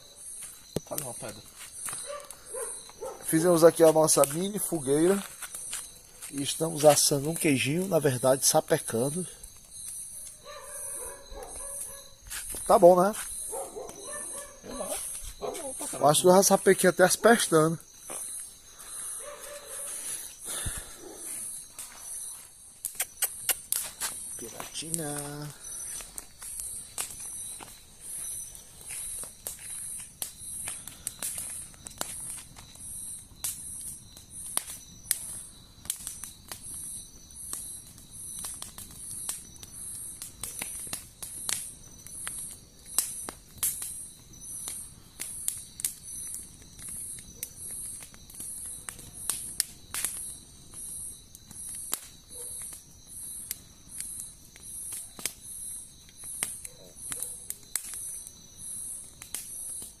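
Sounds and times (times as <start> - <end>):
campfire crackling: 0.0 - 60.0
high insect trill: 0.0 - 60.0
insects chirping: 0.0 - 60.0.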